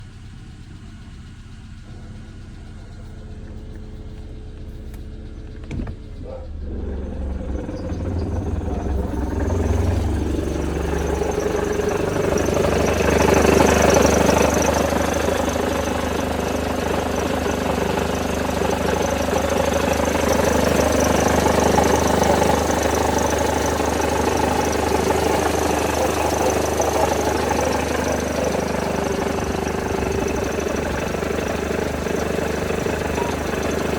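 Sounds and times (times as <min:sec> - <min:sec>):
car engine running: 0:00.0 - 0:33.9
engine knocking: 0:00.0 - 0:33.9.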